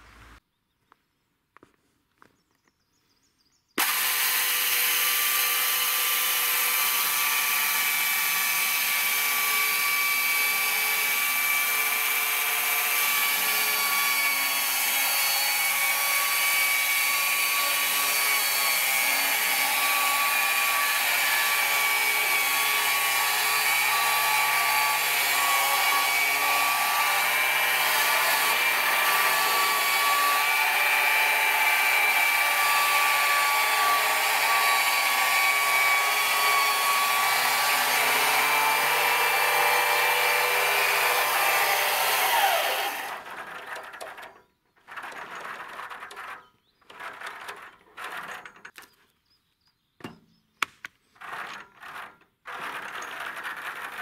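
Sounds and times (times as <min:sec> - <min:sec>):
electric chainsaw cutting log: 0:03.8 - 0:48.8, 0:51.2 - 0:54.0.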